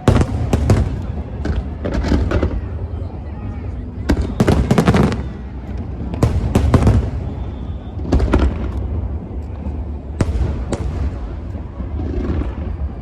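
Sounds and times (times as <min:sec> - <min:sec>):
low rumble of fireworks: 0:00.0 - 0:13.0.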